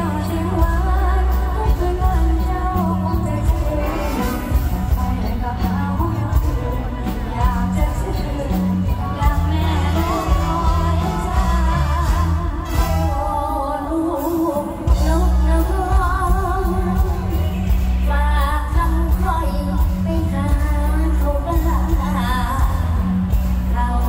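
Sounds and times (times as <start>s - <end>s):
amplified band with heavy bass: 0.0s - 24.0s
woman singing into microphone: 0.0s - 24.0s.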